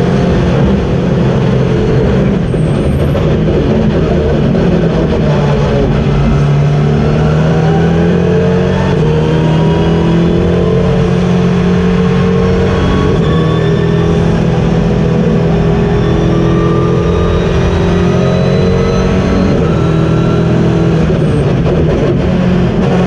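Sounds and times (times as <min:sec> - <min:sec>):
race car engine under load: 0:00.0 - 0:23.0.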